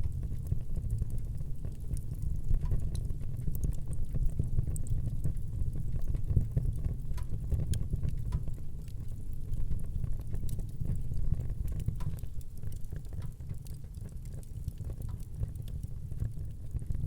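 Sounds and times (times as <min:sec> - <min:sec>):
fire crackling in fireplace: 0:00.0 - 0:17.0.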